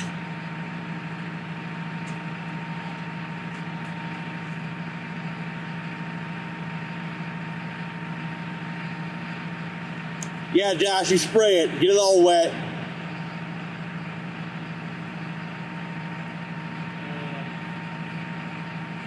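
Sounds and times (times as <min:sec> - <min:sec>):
machine hum: 0:00.0 - 0:19.0
thin constant whine: 0:00.0 - 0:19.0.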